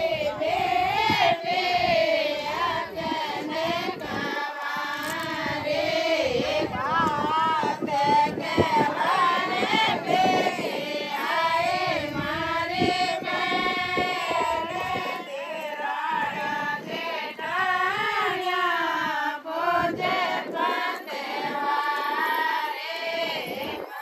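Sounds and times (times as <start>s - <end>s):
women singing folk song: 0.0s - 24.0s.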